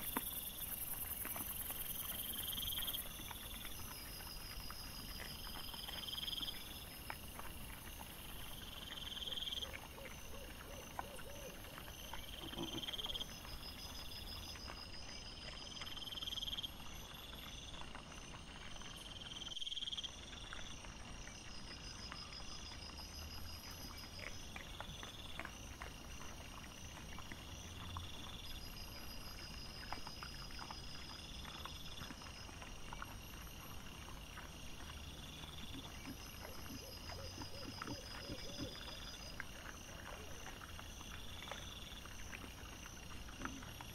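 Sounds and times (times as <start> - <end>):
night insects chirping: 0.0 - 43.9.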